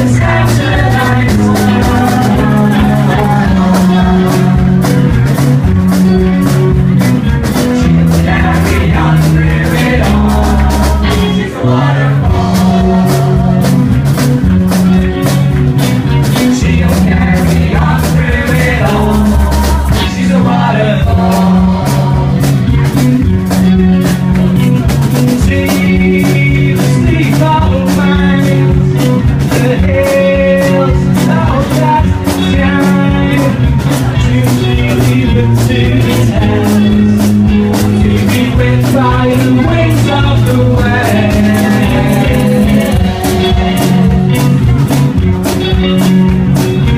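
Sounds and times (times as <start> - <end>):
person singing: 0.0 - 5.1, 7.6 - 14.0, 16.1 - 23.0, 25.3 - 44.9
rock song: 0.0 - 46.9.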